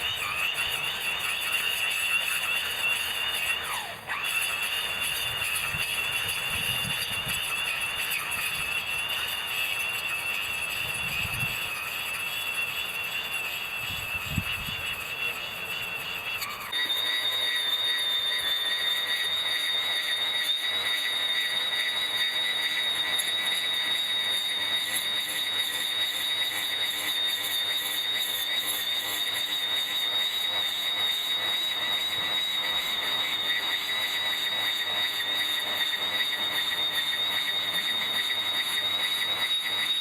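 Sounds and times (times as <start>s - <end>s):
electric grass trimmer whining: 0.0s - 40.0s.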